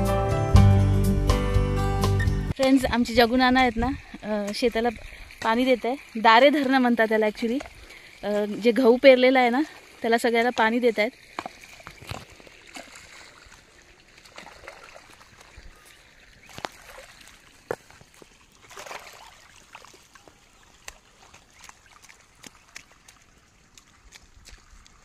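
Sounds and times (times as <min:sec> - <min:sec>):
water flowing and trickling: 0:02.5 - 0:25.0
hoe splashing in wet mud: 0:04.4 - 0:25.0.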